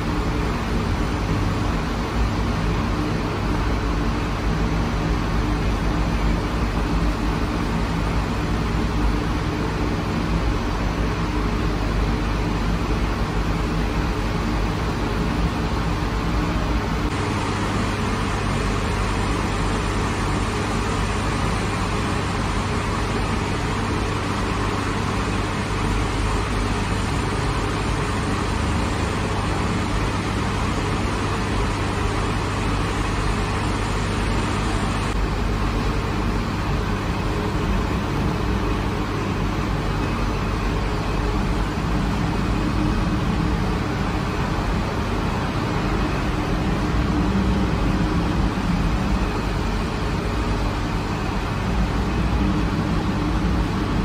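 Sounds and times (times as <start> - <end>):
oven machinery droning: 0.0 - 54.0.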